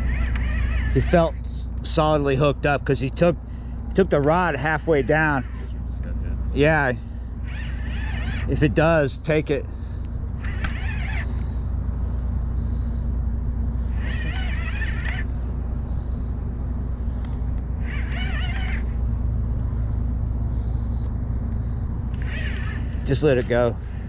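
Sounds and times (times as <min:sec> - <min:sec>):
low droning hum: 0:00.0 - 0:24.0.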